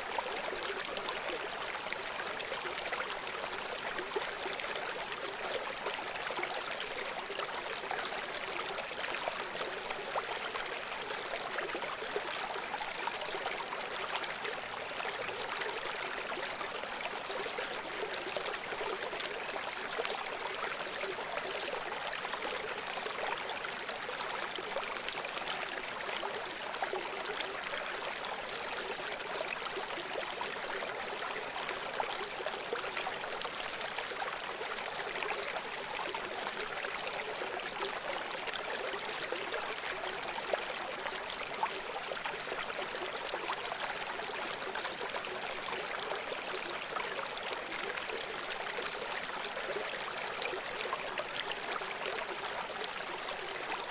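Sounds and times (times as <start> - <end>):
stream flowing over rocks: 0.0 - 53.9.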